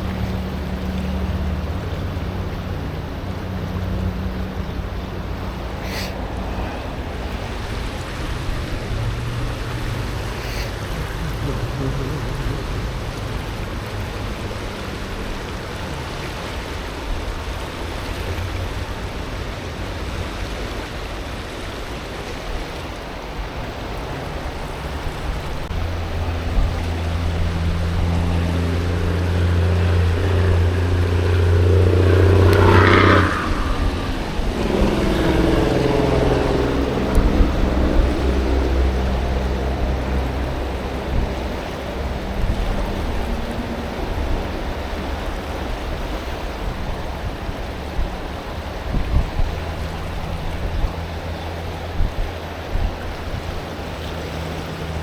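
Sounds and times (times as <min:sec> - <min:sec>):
low motor hum: 0:00.0 - 0:21.0, 0:22.6 - 0:55.0
passing engine: 0:00.0 - 0:55.0
outdoor rushing noise: 0:02.2 - 0:55.0.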